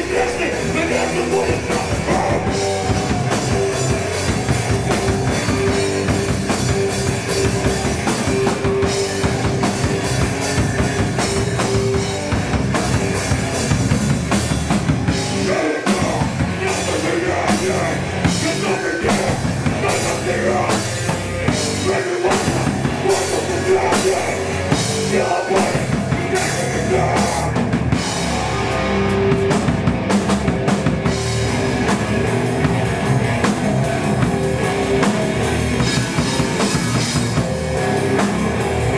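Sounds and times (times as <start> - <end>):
bass guitar: 0.0 - 38.9
distorted electric guitar: 0.0 - 38.9
drum kit with fast cymbals: 0.0 - 38.9.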